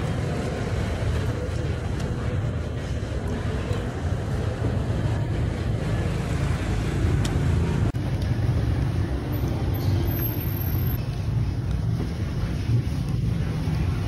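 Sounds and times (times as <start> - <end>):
low rumble of street traffic: 0.0 - 14.0.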